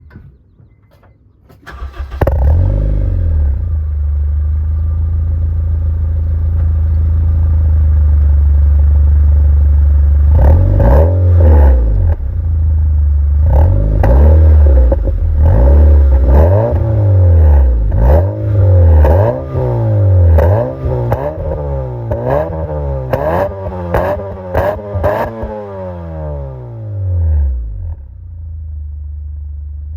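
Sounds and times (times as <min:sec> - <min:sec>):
car engine starting: 0:01.5 - 0:29.1
car engine idling and revving: 0:01.6 - 0:29.9.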